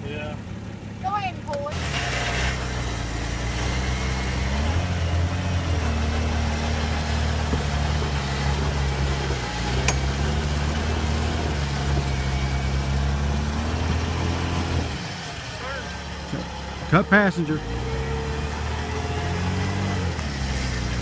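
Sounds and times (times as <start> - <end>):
engine revving under load: 1.5 - 21.0.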